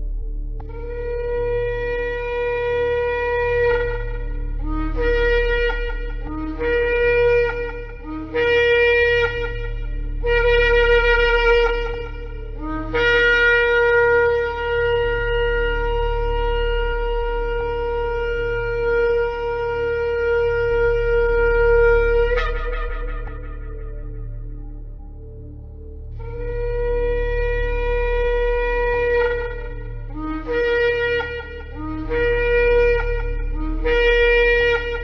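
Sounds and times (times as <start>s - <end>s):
steady low hum: 0.0s - 35.0s
ram's horn blasts: 0.1s - 35.0s.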